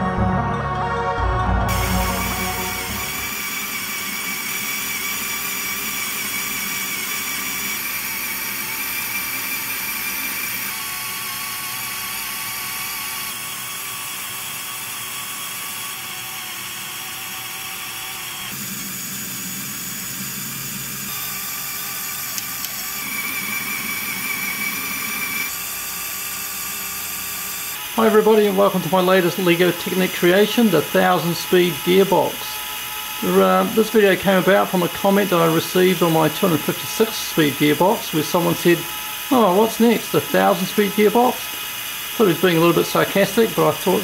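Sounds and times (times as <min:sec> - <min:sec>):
plastic gears whining: 0:03.1 - 0:44.0.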